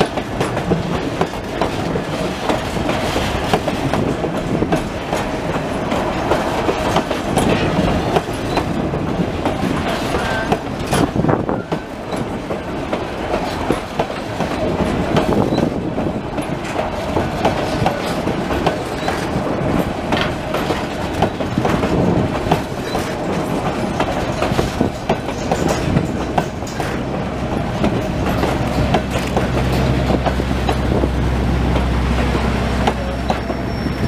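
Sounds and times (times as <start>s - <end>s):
train wheels clacking on rail joints: 0.0s - 34.0s.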